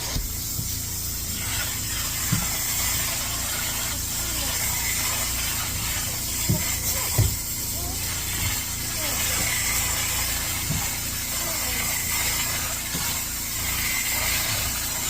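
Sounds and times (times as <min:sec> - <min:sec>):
upholstery extractor running: 0:00.0 - 0:15.0.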